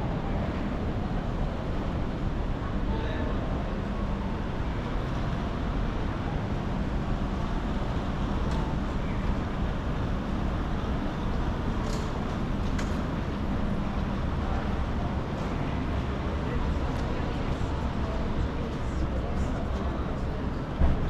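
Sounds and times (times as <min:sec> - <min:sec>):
indistinct crowd chatter: 0:00.0 - 0:21.0.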